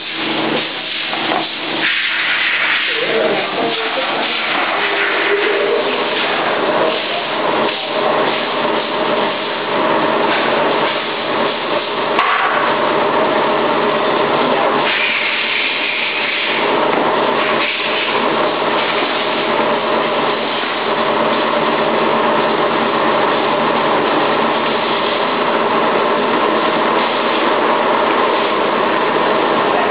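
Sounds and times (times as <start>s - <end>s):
machinery humming: 0.0s - 29.9s.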